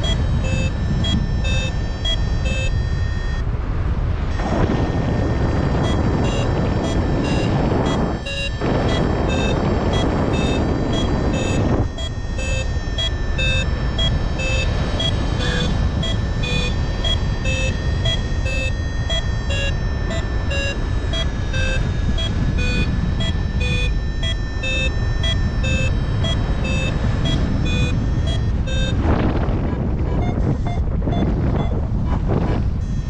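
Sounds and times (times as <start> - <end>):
variometer beeping: 0.0 - 3.5, 4.3 - 33.0
wind rushing past microphone: 0.0 - 33.0.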